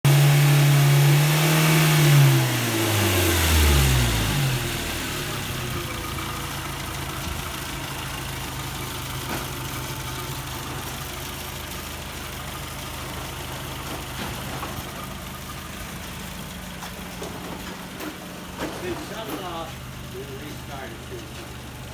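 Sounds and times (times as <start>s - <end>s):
engine revving and idling: 0.0s - 21.9s.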